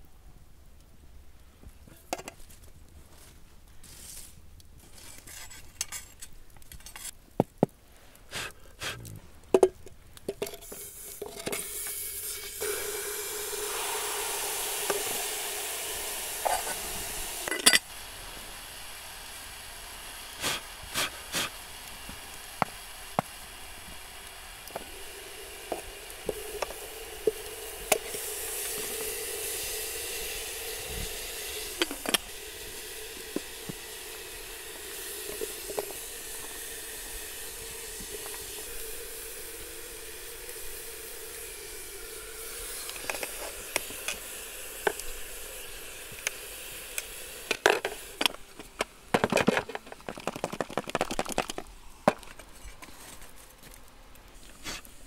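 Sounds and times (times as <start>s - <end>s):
meat and hot stones sizzling: 1.9s - 55.0s.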